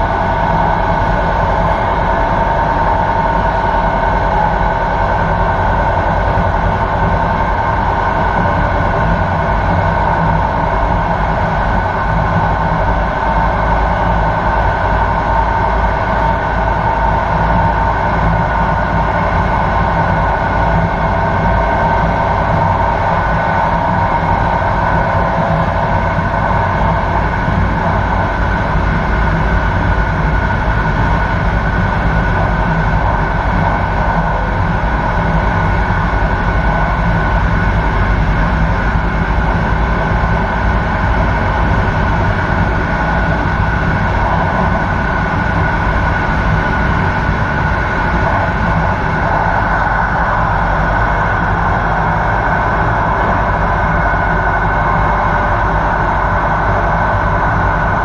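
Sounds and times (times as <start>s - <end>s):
electric train wheels on rails: 0.0s - 58.0s.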